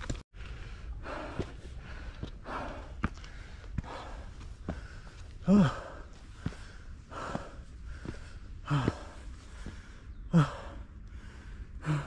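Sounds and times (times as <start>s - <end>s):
person breathing hard: 0.4s - 12.0s.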